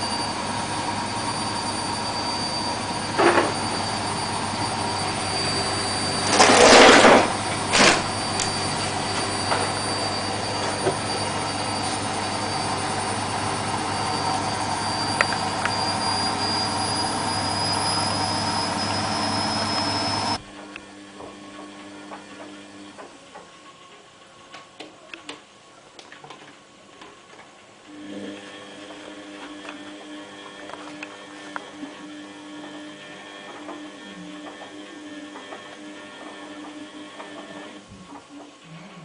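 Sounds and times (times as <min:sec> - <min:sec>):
washing machine spinning: 0:00.0 - 0:38.7.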